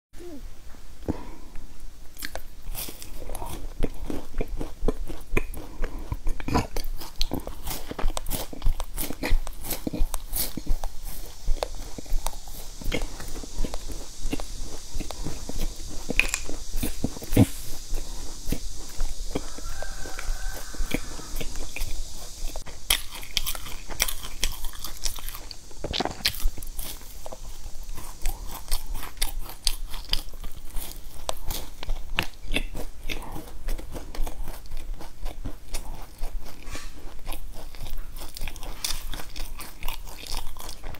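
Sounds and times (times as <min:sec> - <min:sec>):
person crunching a grain bar: 0:02.1 - 0:40.9.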